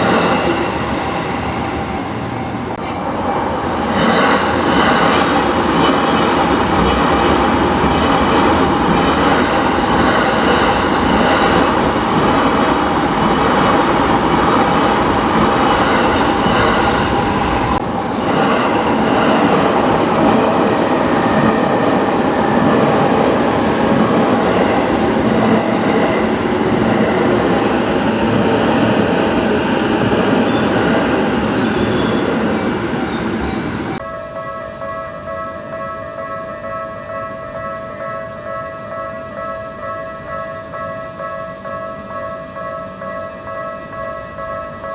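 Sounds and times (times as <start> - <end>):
electric train wheels rumbling: 0.0 - 44.9.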